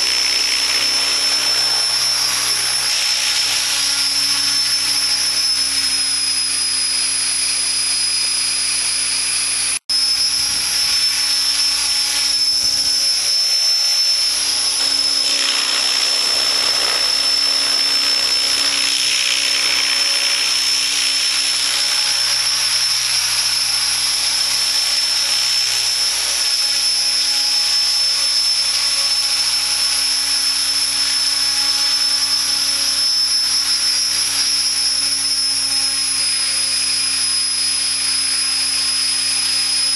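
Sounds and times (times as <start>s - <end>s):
motor and gear whine: 0.0s - 39.9s
rotor blades rushing: 0.0s - 39.9s.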